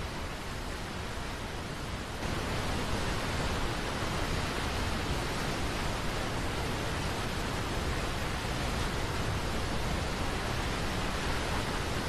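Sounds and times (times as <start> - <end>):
waterfall rushing: 1.8 - 12.0.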